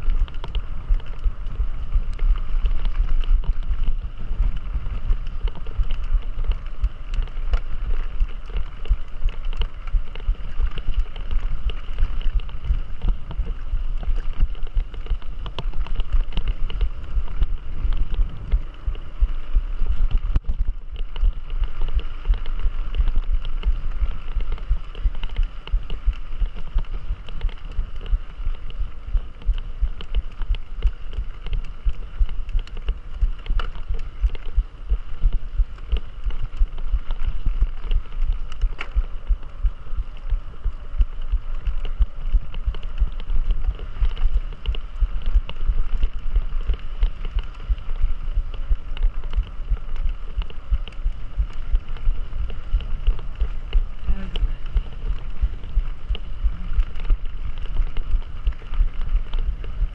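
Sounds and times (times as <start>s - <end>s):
bike rumbling over rough trail: 0.0s - 59.9s
wind buffeting microphone: 0.0s - 59.9s.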